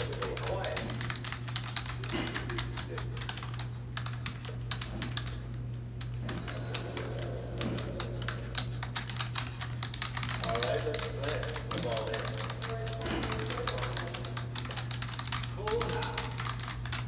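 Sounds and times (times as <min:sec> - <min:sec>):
typing on computer keyboard: 0:00.0 - 0:17.0.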